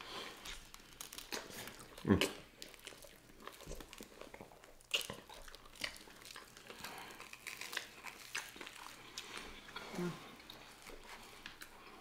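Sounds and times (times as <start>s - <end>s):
people chewing and biting food: 0.0s - 12.0s.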